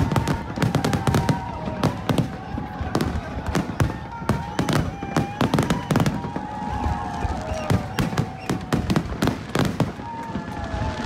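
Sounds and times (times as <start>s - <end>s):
descending firework whistles: 0.0s - 11.0s
fireworks bursting: 0.0s - 11.0s
fireworks crackle: 0.0s - 11.0s.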